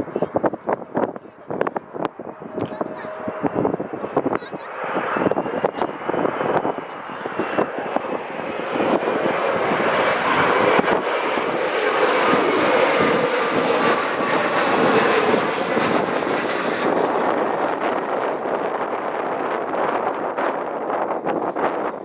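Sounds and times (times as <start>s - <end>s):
airliner engines rushing: 0.0s - 22.0s
wind buffeting microphone: 0.0s - 22.0s.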